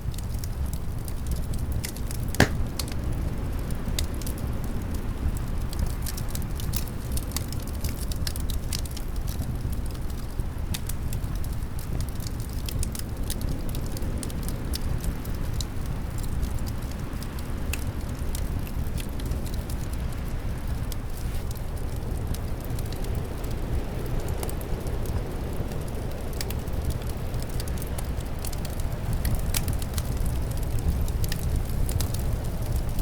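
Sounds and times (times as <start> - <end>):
fire crackling and popping: 0.0 - 33.0
low rumble of wind: 0.0 - 33.0.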